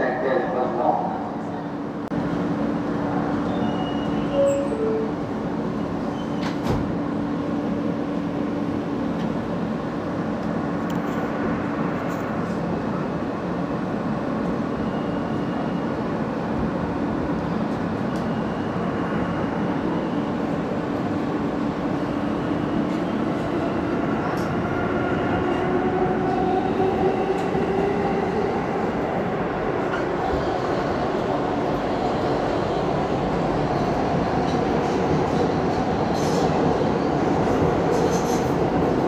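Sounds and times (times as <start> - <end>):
subway wheels rumbling on rail: 0.0 - 39.0.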